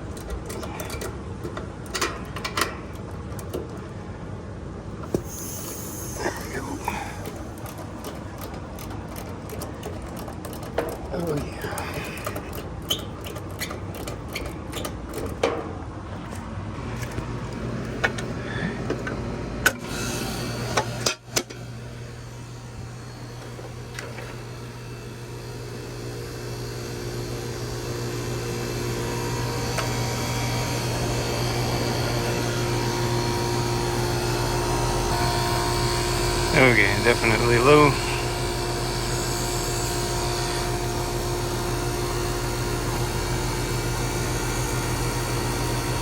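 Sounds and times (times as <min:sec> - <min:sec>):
air conditioner humming: 0:00.0 - 0:46.0.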